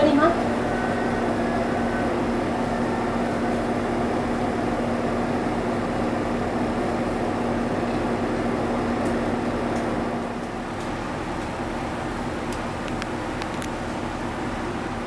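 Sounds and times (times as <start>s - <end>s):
bus engine droning: 0.0s - 13.3s.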